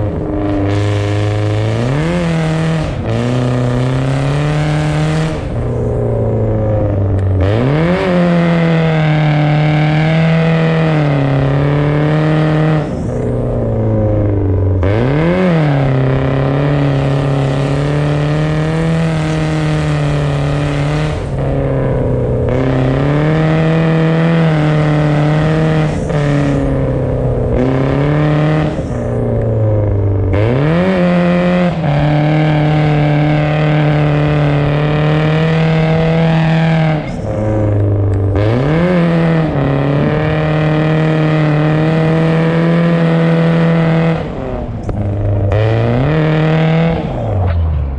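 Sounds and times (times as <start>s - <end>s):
car engine at high revs: 0.0s - 47.9s.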